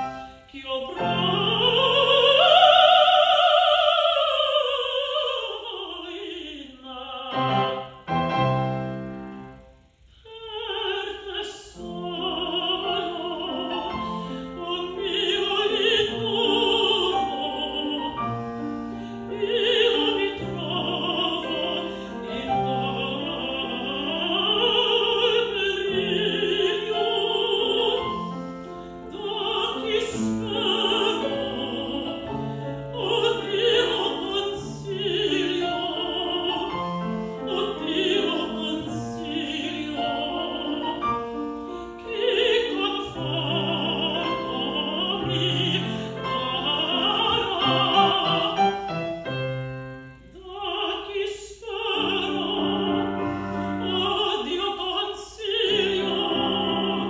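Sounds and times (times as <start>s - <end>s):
grand piano: 0.0s - 57.0s
woman singing operatic aria: 0.0s - 57.0s.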